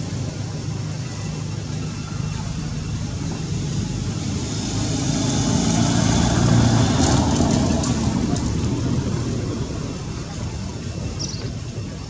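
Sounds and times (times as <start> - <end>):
passing motor vehicle rumble: 0.0 - 12.0.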